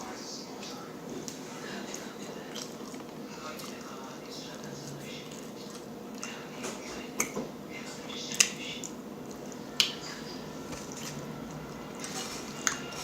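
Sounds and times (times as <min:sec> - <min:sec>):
person chewing food: 0:01.2 - 0:13.0.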